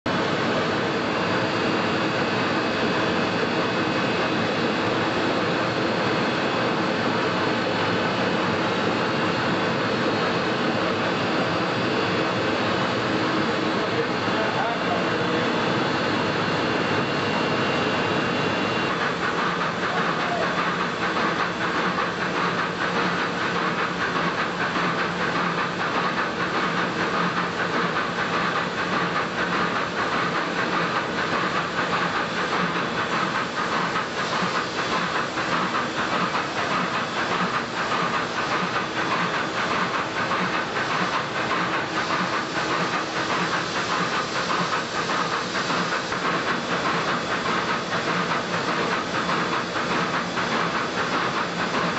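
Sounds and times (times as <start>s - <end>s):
steam engine clatter: 0.1s - 51.9s
steam hissing: 0.1s - 51.9s.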